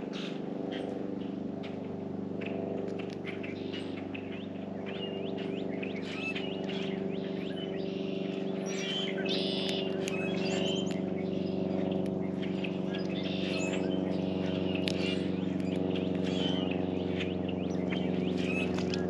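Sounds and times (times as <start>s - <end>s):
songbirds chirping and calling: 0.0s - 19.0s
steady low hum: 0.0s - 19.0s.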